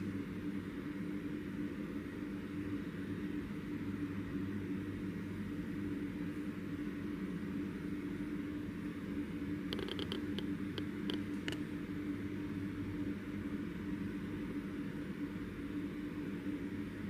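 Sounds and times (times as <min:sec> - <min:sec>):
low mechanical hum with hiss: 0:00.0 - 0:17.0.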